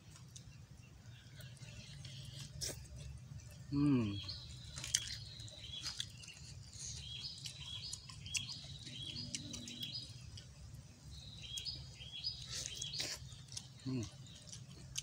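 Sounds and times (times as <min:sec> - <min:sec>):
chewing and tearing chicken: 0:00.0 - 0:15.0.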